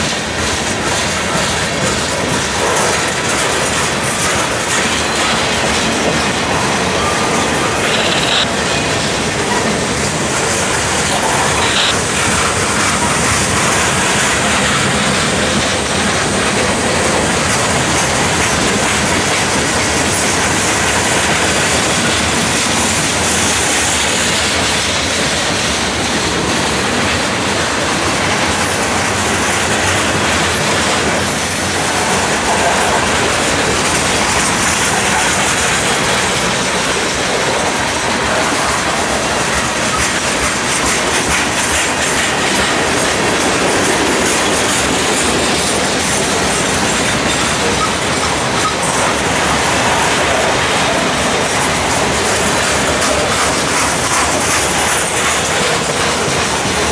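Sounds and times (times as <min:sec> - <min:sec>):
freight train rolling past: 0:00.0 - 0:56.9
train wheel squeals: 0:00.4 - 0:25.8, 0:28.8 - 0:56.9.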